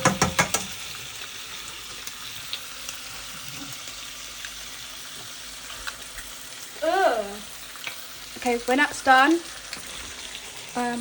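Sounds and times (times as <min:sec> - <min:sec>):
bacon and egg sizzling in a pan: 0:00.0 - 0:11.0.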